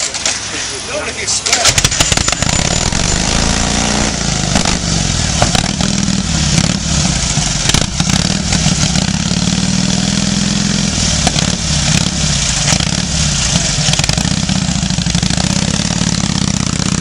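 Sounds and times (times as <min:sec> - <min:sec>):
motorcycle engine idling: 0:01.7 - 0:17.0.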